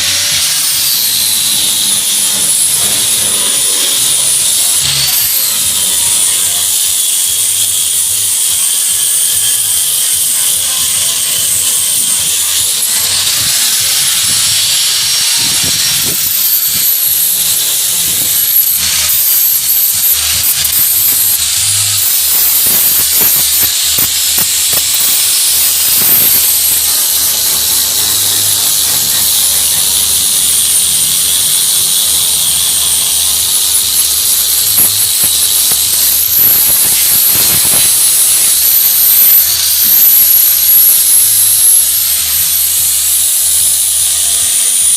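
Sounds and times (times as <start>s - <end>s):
electric power tool whining: 0.0s - 44.9s.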